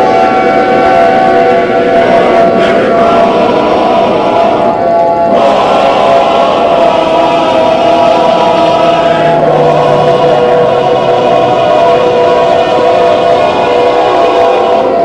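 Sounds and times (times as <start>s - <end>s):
dense choir-like drone: 0.0s - 15.0s.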